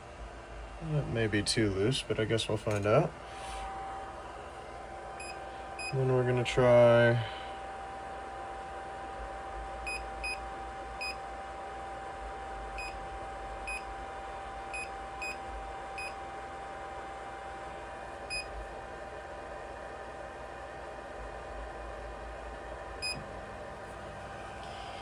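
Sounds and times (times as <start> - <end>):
faint machine whine: 0.0 - 25.0.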